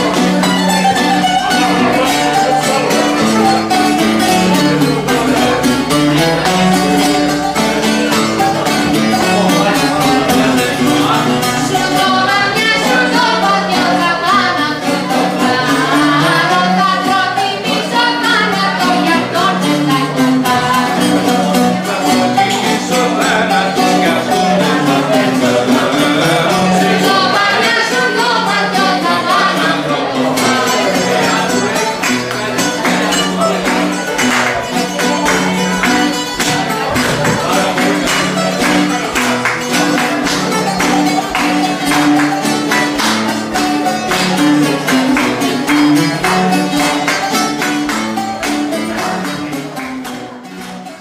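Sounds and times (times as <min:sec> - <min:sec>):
bouzouki band music: 0:00.0 - 0:51.0.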